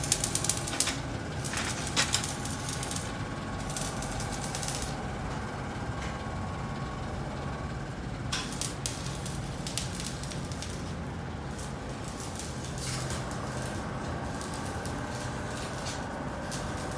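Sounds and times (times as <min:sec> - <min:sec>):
welding arc crackling: 0:00.0 - 0:05.3, 0:08.0 - 0:16.9
low machine hum: 0:00.0 - 0:16.9.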